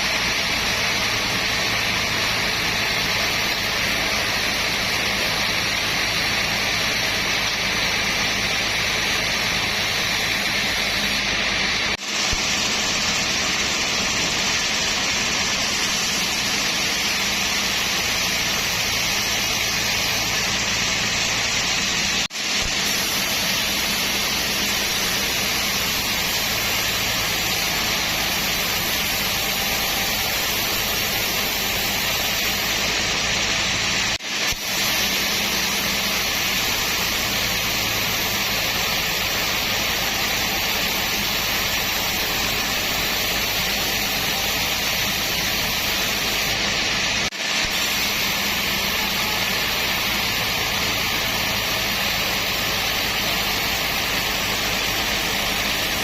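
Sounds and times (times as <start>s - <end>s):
sawmill machinery rushing: 0.0s - 56.0s.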